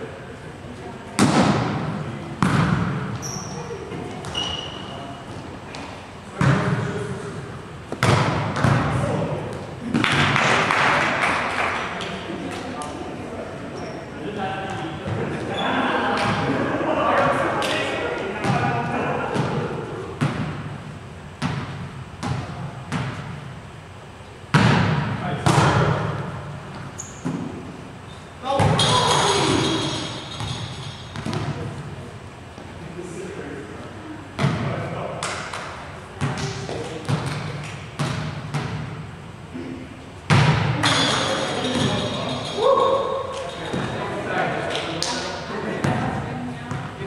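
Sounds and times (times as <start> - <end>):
volleyball hits in echoing hall: 0.7 - 13.4, 14.0 - 23.7, 24.4 - 32.8, 34.0 - 47.0.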